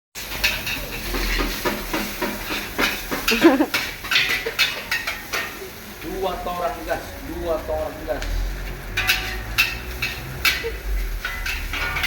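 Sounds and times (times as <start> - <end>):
metal spatula scraping a wok: 0.2 - 6.4, 8.4 - 12.0
food sizzling: 0.2 - 12.0.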